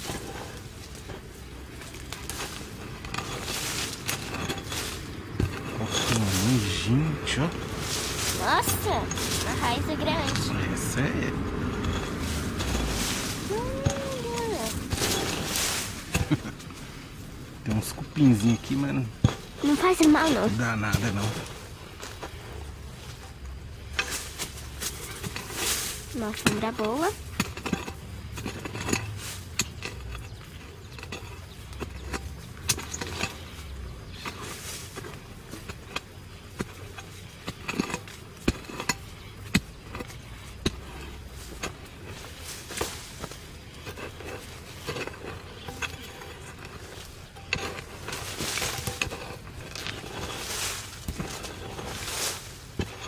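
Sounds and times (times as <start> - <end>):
earth scraping: 0.0 - 53.0.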